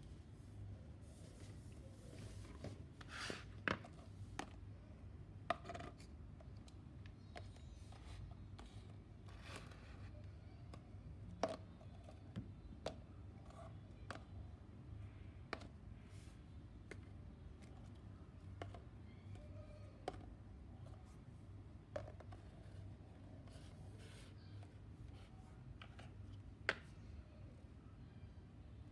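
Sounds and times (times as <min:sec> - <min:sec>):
faint low hum: 0:00.0 - 0:28.9.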